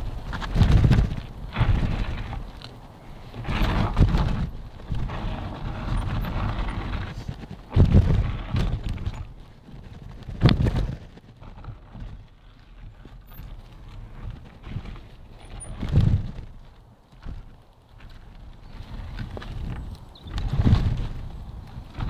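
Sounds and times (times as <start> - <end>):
bike rattling over gravel: 0.0 - 22.0
wind rumbling on microphone: 0.0 - 22.0.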